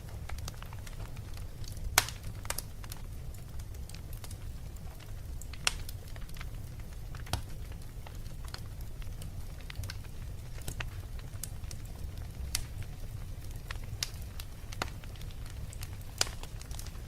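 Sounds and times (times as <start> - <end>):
fire crackling and popping: 0.0 - 17.0
fire rumbling in a fireplace: 0.0 - 17.0.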